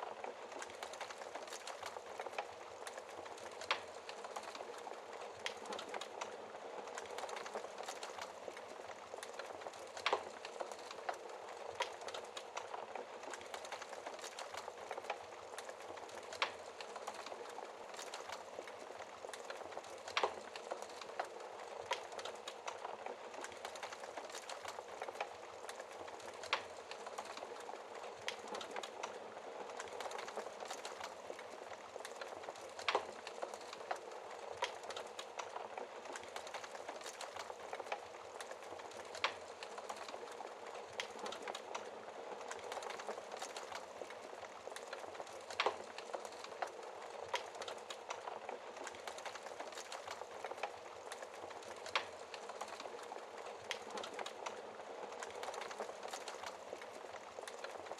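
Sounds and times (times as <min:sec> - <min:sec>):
log fire crackling and popping: 0:00.0 - 0:57.9.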